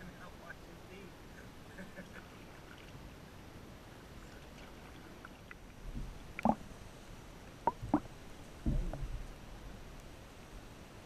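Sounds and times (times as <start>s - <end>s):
muffled water sounds: 0.0s - 11.0s.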